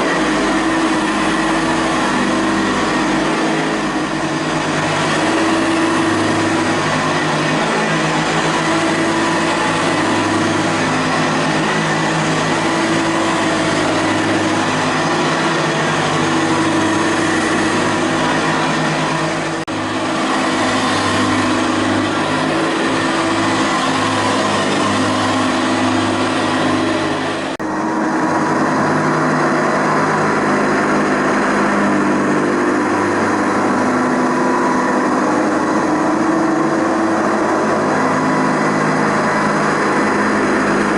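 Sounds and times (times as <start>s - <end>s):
vacuum cleaner running on carpet: 0.0s - 40.9s.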